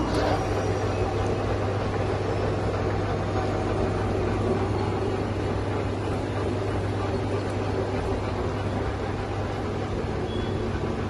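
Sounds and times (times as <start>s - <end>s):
lathe humming: 0.0s - 11.0s.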